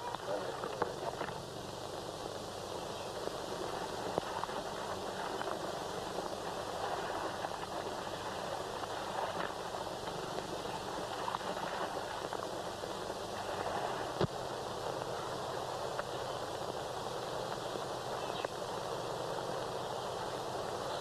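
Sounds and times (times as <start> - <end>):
faint clicks and crackles: 0.0 - 21.0
film soundtrack hiss: 0.0 - 21.0.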